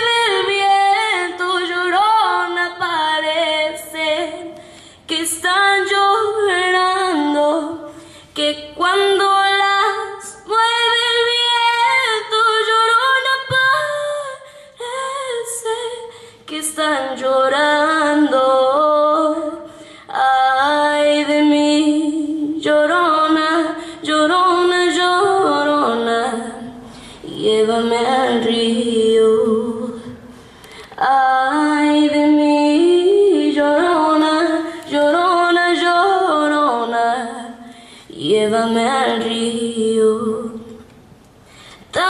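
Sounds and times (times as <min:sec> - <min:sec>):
woman singing slow melody: 0:00.0 - 0:40.9.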